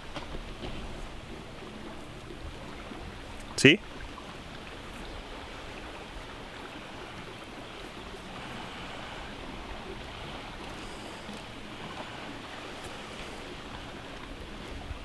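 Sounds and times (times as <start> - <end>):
shoreline surf: 0.0 - 15.0.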